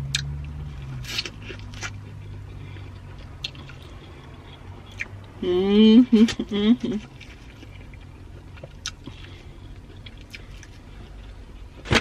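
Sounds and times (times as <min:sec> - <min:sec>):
person chewing corn: 0:00.0 - 0:05.4, 0:06.2 - 0:11.8
low hum in car: 0:00.0 - 0:12.0.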